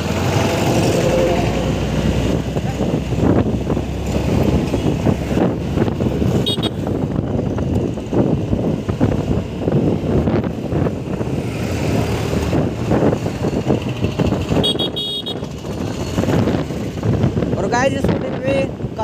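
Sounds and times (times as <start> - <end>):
scooter engine rumble in traffic: 0.0 - 19.0.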